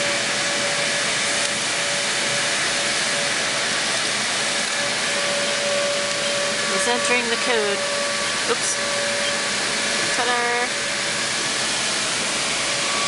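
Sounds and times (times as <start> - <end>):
car wash machinery hiss and whine: 0.0 - 13.0.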